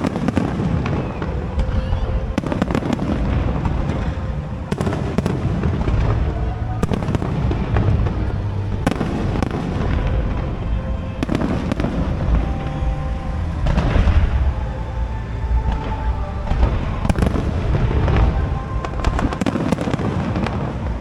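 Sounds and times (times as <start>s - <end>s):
music playing: 0.0s - 21.0s
rumble of firework bursts: 0.0s - 21.0s.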